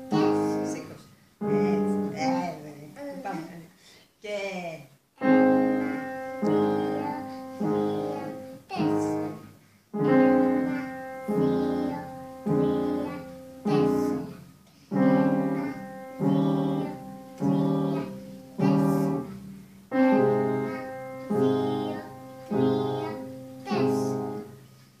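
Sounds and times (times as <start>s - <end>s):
upright piano notes and chords: 0.0s - 2.6s, 5.2s - 24.7s.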